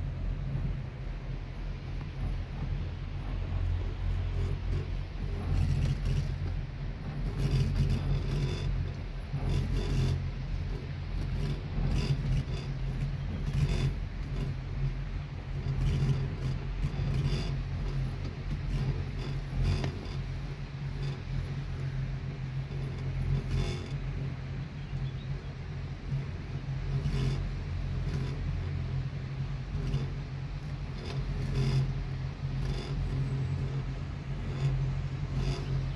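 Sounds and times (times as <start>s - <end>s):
chairlift rumble and hiss: 0.0s - 35.9s.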